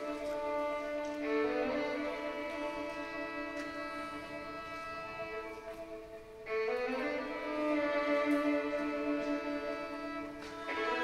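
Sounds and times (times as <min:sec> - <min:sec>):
violins holding long chord: 0:00.0 - 0:11.0.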